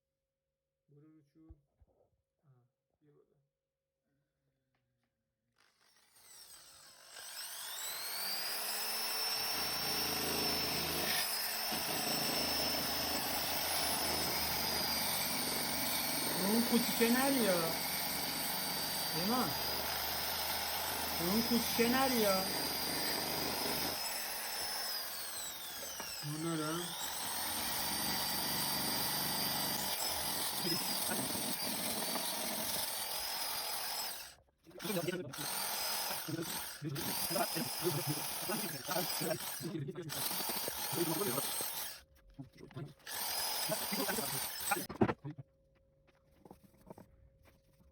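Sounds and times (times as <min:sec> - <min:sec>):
power tool motor whine: 0:05.6 - 0:42.0, 0:43.0 - 0:45.1.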